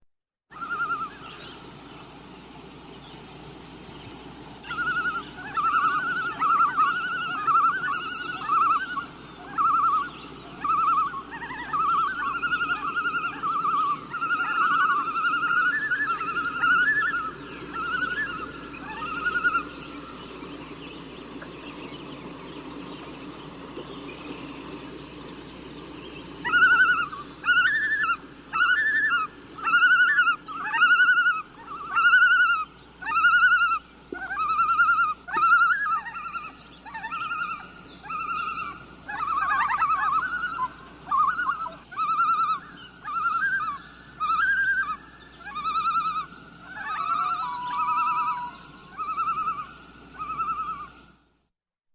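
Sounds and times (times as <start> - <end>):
bird calling: 0.5 - 2.0, 2.9 - 51.0.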